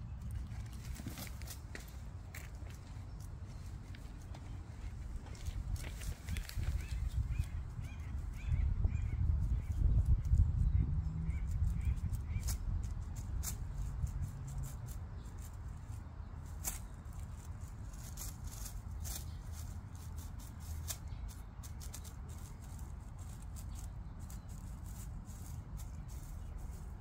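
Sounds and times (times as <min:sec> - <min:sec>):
leaves rustling and crackling: 0:00.1 - 0:07.8, 0:11.6 - 0:27.0.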